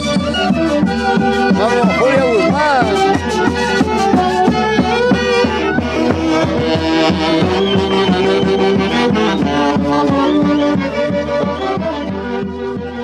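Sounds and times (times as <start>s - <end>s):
folk orchestra playing lively tune: 0.0s - 13.0s.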